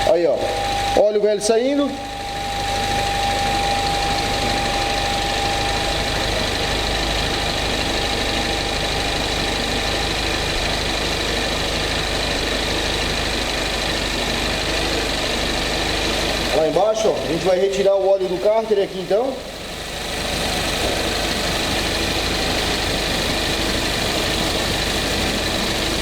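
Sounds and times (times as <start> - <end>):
car engine idling: 0.0 - 26.0
thin steady whine: 0.0 - 26.0.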